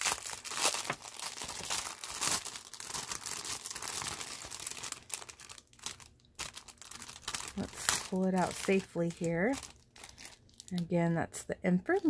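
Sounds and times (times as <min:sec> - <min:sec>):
cellophane bag crinkling: 0:00.0 - 0:10.9.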